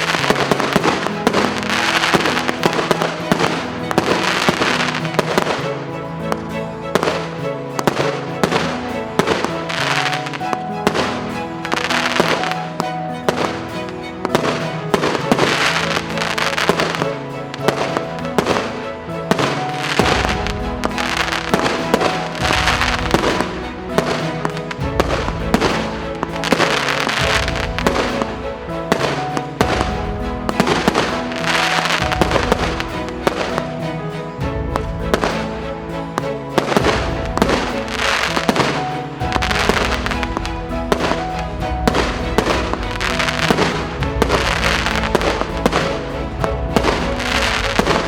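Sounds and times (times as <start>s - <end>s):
fireworks barrage: 0.0s - 13.7s, 14.3s - 33.8s, 34.4s - 48.0s.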